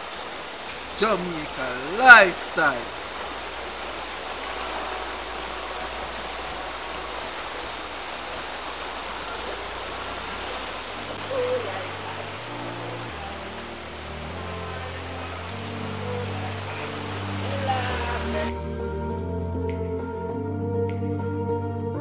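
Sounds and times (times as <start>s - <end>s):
steady rushing hiss: 0.0s - 18.6s.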